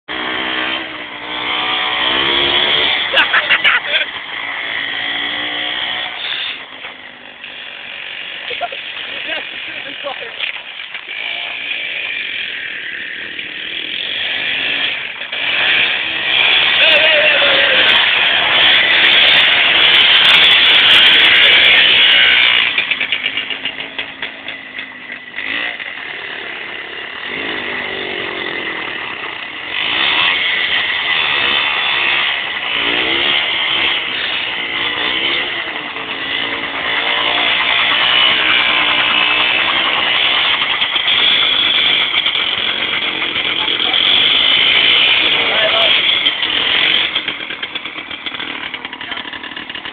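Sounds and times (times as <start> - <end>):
two-stroke engine revving: 0.1 - 49.9.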